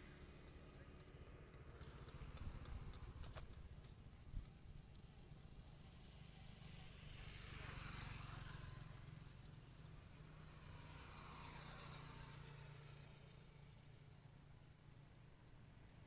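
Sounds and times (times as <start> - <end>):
distant traffic hum: 0.0 - 16.0
vehicles passing hiss: 0.0 - 16.0.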